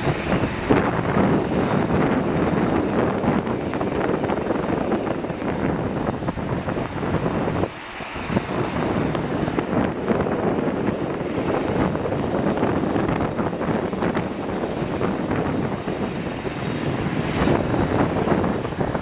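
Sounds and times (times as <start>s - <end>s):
jet engines of landing plane: 0.0s - 19.0s
wind buffeting microphone: 0.0s - 19.0s.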